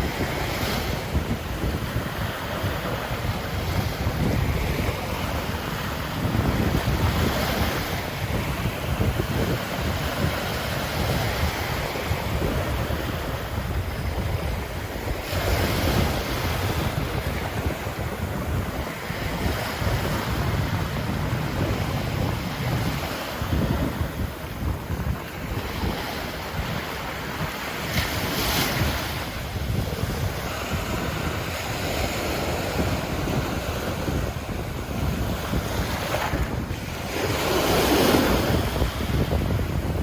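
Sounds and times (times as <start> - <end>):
surf washing onto beach: 0.0 - 40.0
wind buffeting microphone: 0.0 - 40.0.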